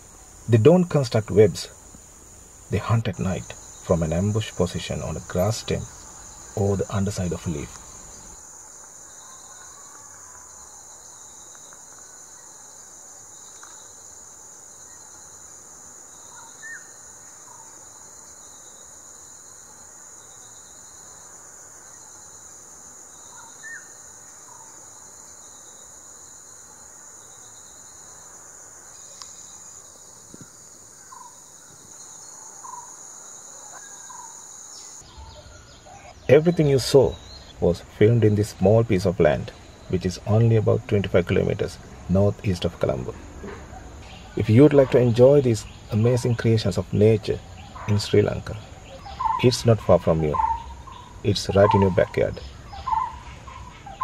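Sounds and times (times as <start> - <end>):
high-pitched insect chorus: 0.0 - 54.0
pulsing insect call: 0.0 - 54.0.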